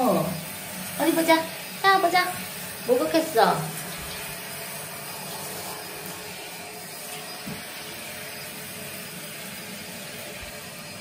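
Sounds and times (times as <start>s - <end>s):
shower spraying water: 0.0s - 11.0s.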